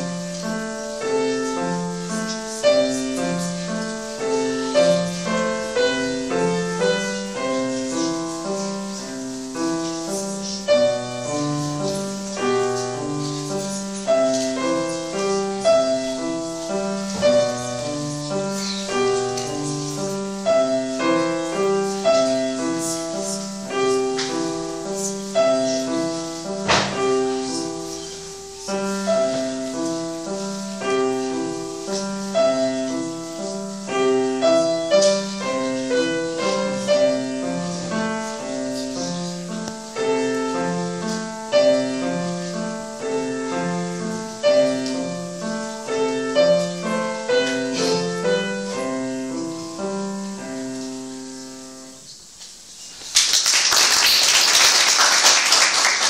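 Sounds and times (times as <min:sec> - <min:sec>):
grand piano classical piece: 0:00.0 - 0:56.0.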